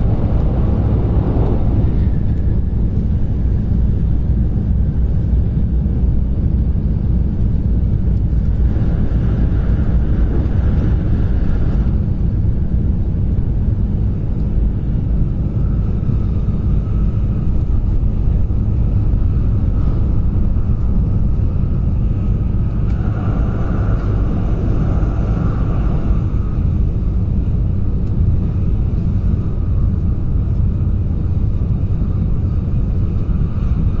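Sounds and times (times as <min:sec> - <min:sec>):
train cabin rumble and rushing hiss: 0:00.0 - 0:34.0.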